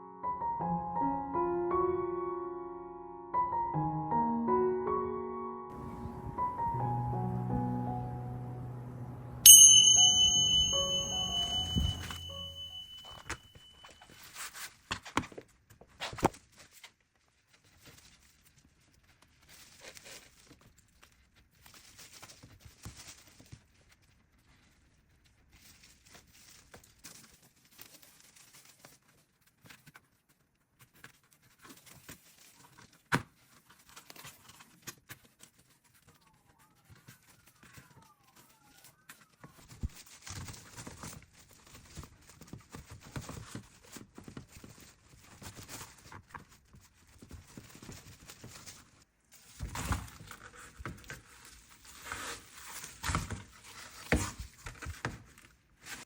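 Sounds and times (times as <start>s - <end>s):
craft material rustling: 10.5s - 56.0s.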